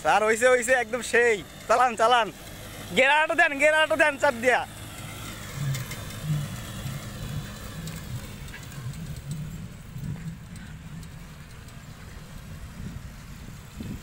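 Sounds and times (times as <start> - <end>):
distant motorcycle engine hum: 0.0 - 14.0.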